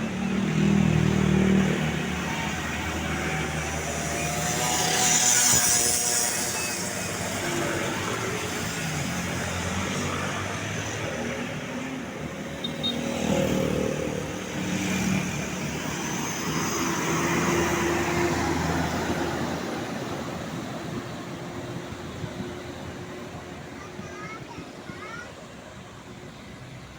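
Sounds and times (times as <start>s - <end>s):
vehicles driving past: 0.0s - 26.9s.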